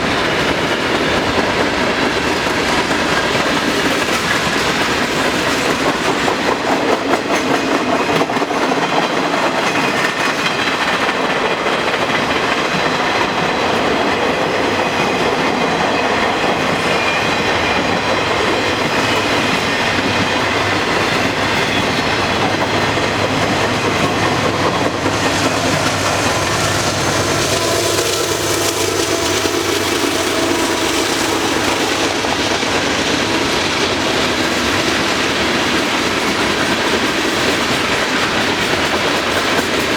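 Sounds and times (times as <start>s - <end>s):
train wheels clattering on rail: 0.0s - 39.9s.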